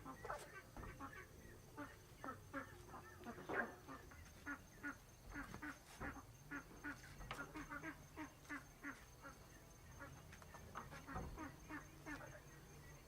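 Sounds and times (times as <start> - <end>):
fowl quacking calls: 0.0 - 12.4.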